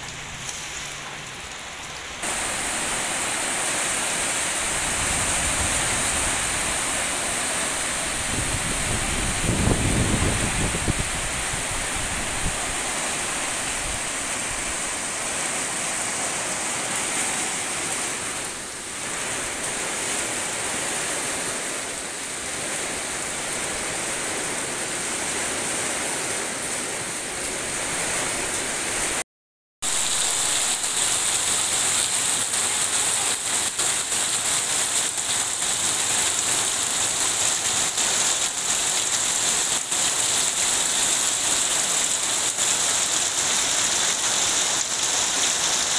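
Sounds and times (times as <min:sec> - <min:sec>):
heavy rain falling: 0:00.0 - 0:29.2, 0:29.8 - 0:45.9
raindrops hitting close by: 0:00.0 - 0:29.2, 0:29.8 - 0:45.9.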